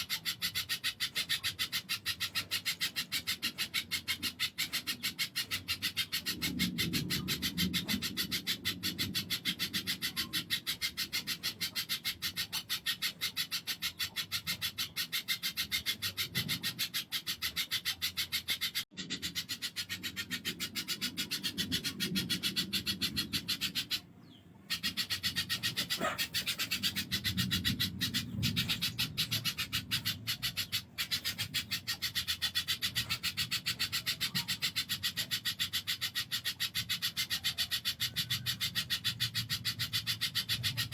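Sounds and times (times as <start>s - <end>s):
bird rasping chatter: 0.0s - 40.9s.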